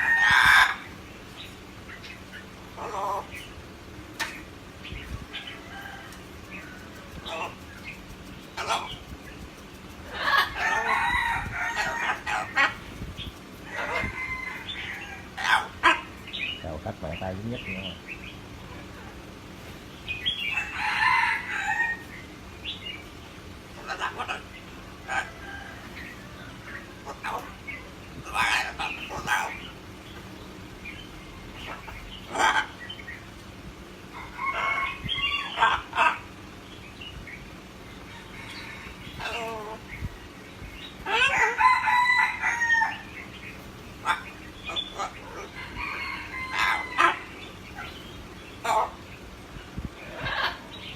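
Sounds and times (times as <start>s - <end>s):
bird crowing call: 0.0s - 3.6s, 5.2s - 7.9s, 10.0s - 12.9s, 13.6s - 16.6s, 20.1s - 50.9s.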